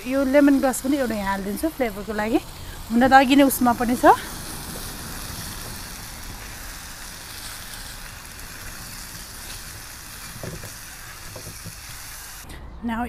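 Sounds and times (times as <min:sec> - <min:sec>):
vegetables sizzling in a skillet: 0:00.0 - 0:12.5.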